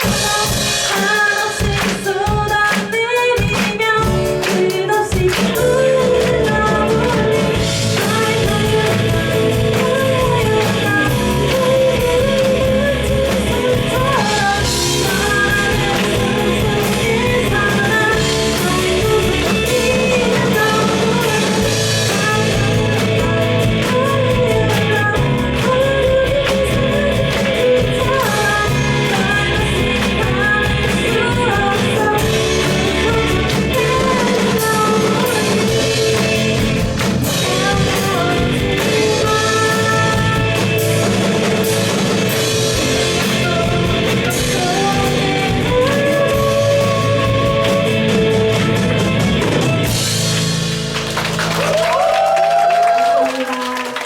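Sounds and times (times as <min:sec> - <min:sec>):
woman singing lead vocals: 0:00.0 - 0:49.8
rock band playing live: 0:00.0 - 0:54.0.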